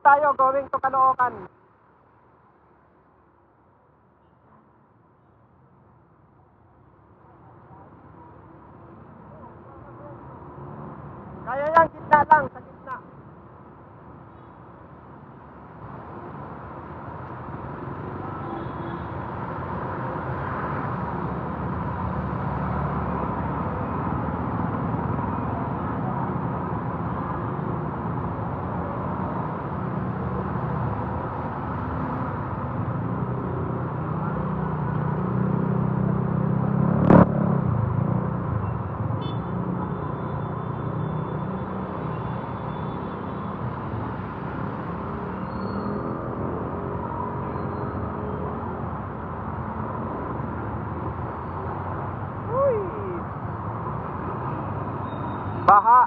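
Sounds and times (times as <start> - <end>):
road traffic engines: 0.0 - 56.0.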